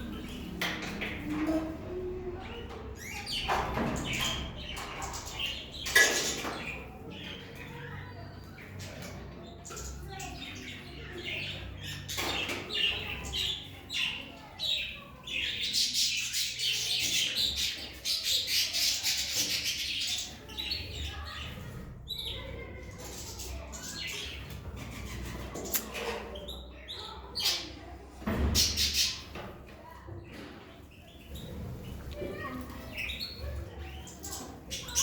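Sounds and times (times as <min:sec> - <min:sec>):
finches chirping and twittering: 0:00.0 - 0:27.8, 0:28.4 - 0:29.4, 0:30.2 - 0:35.0.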